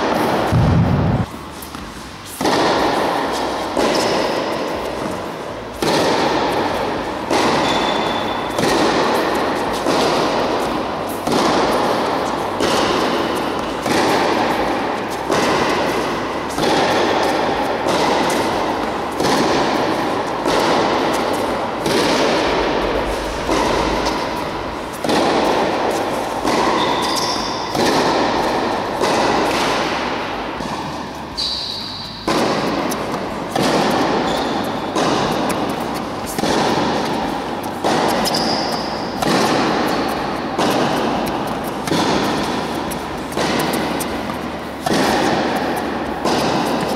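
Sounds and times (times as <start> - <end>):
tennis ball hit by racket: 0.0 - 31.3, 32.0 - 46.9
tennis ball bouncing on court: 0.0 - 46.9.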